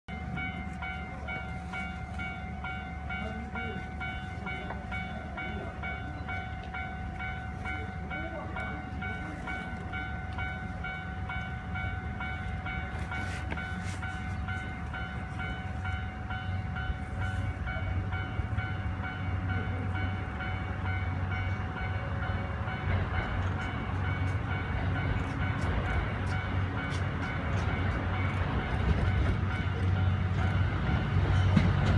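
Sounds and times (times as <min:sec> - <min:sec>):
level-crossing alarm ringing: 0:00.1 - 0:31.6
train rumble: 0:00.1 - 0:31.9.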